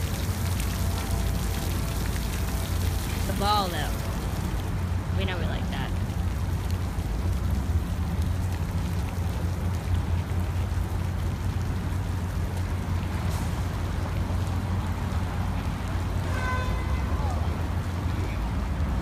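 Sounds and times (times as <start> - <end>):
water sprinkler spraying: 0.0 - 16.2.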